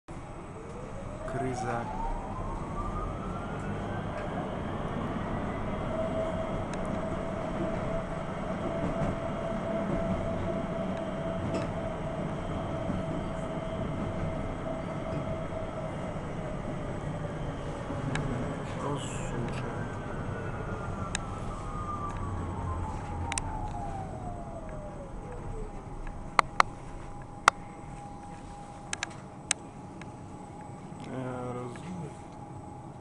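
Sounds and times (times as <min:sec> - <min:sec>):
tram motor whine: 0:00.1 - 0:33.0
wheels rumbling on rails: 0:00.1 - 0:33.0.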